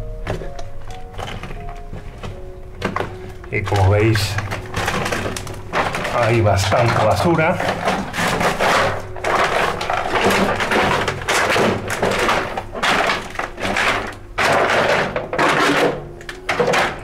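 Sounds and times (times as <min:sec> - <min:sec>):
footsteps crunching over rubbish: 0:00.0 - 0:17.0.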